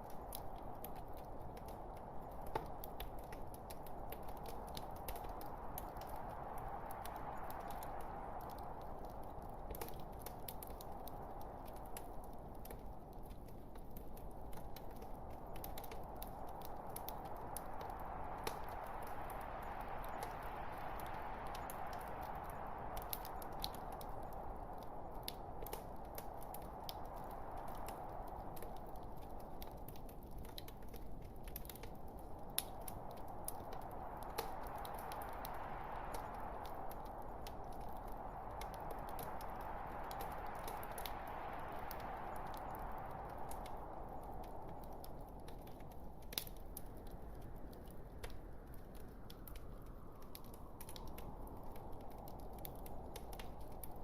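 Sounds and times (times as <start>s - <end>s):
soft hiss of fire: 0.0s - 54.0s
wood fire crackling and popping: 0.0s - 54.0s.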